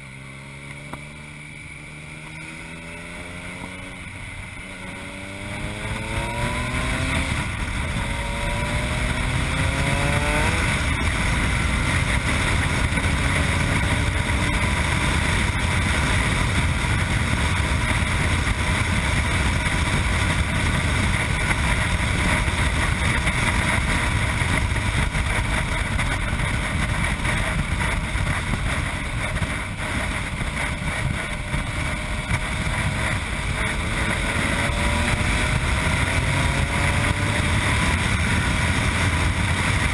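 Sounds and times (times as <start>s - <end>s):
motorcycle engine accelerating: 0.0s - 39.9s
wind noise: 2.4s - 39.9s.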